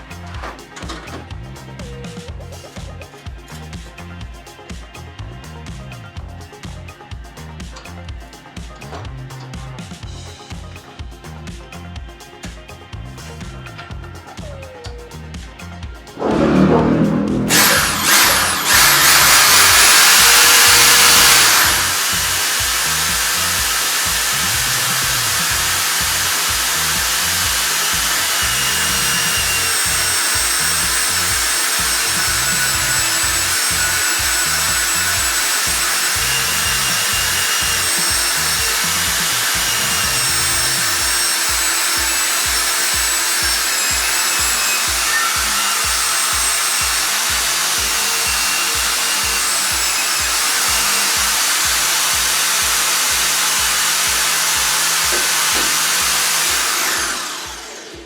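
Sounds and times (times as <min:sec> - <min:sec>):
background music with beat: 0:00.0 - 0:58.0.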